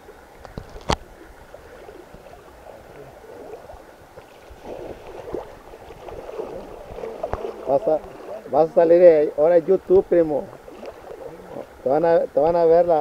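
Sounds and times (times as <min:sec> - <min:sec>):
wading through water: 0:00.0 - 0:13.0.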